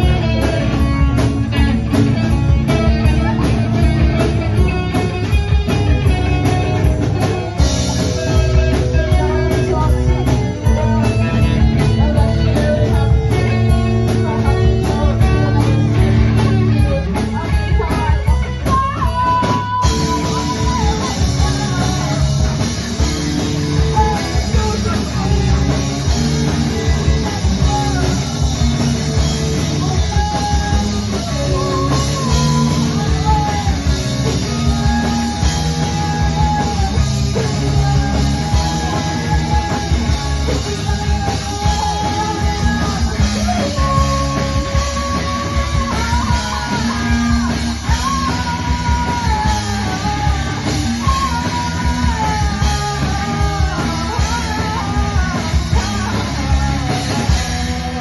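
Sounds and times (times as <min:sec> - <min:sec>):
rock band playing live: 0:00.0 - 0:58.0
sparse guitar strums: 0:00.0 - 0:58.0.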